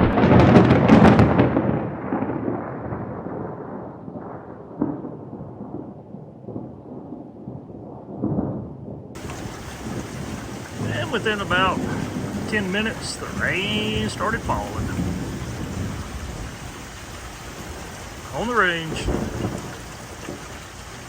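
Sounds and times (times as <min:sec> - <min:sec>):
thunder crack rolling: 0:00.0 - 0:21.0.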